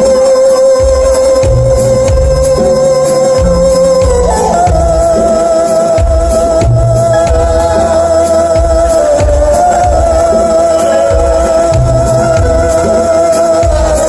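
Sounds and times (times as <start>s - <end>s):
bent lead note: 0.0s - 14.0s
cymbal beat: 0.0s - 14.0s
pulsing bass: 0.0s - 14.0s.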